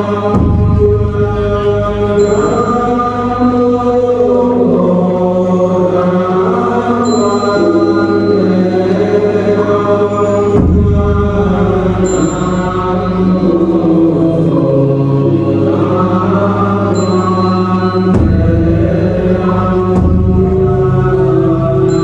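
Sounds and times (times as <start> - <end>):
slow chant in long notes: 0.0 - 22.0
steady low drone: 0.0 - 22.0.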